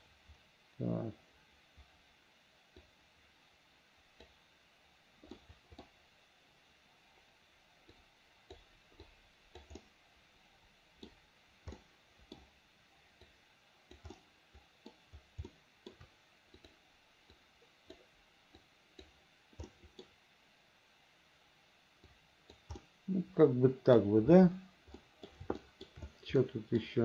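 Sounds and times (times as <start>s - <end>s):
faint room hiss: 0.0s - 27.0s.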